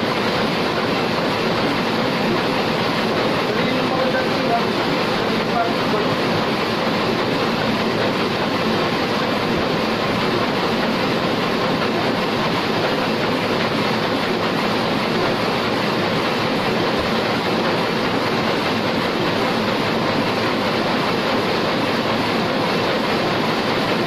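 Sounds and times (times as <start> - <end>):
printing press running: 0.0 - 24.0.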